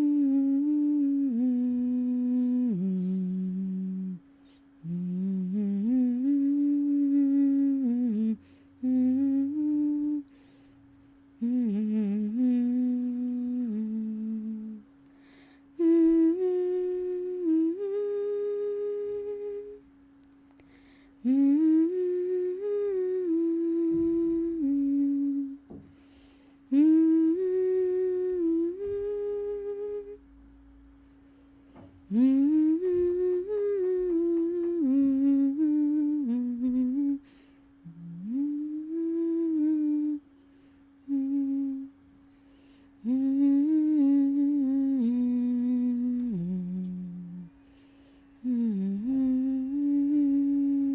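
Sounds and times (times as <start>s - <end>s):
faint steady drone note: 0.0s - 50.9s
person humming a gentle melody: 0.0s - 50.9s.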